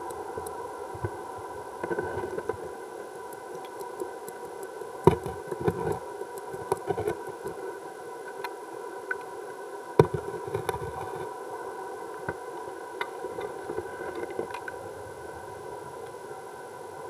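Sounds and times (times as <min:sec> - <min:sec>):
underwater hum: 0:00.0 - 0:17.0.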